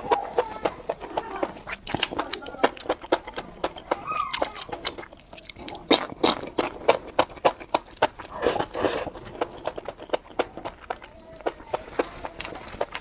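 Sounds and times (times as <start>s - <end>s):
mouth clicks: 0.0s - 13.0s
mouth smack: 0.0s - 13.0s
wet chewing crunches: 0.0s - 13.0s.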